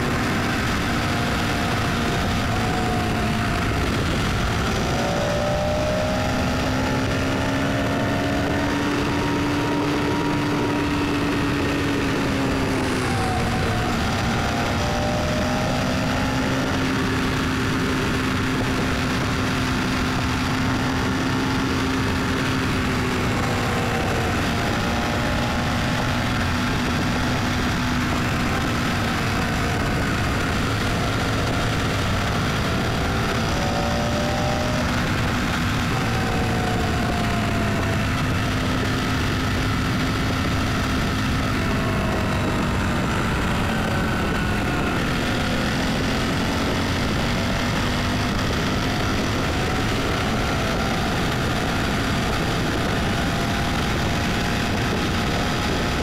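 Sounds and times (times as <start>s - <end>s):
car engine hum: 0.0s - 56.0s
road noise: 0.0s - 56.0s.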